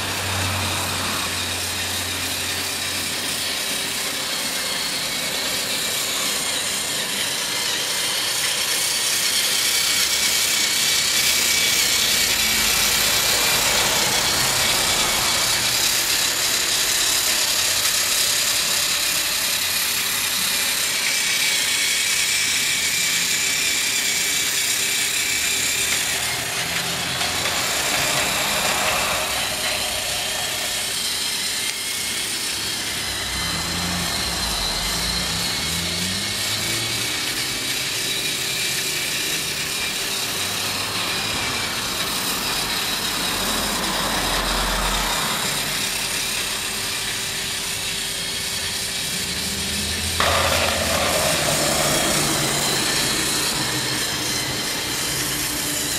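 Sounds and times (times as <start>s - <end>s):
toy train motor whirring: 0.0s - 55.9s
wheels rattling on plastic track: 0.0s - 55.9s.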